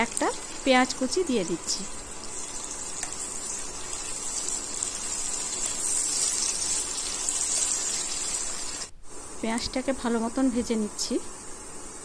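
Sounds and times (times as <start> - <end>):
onion frying in oil sizzling: 0.0 - 12.0.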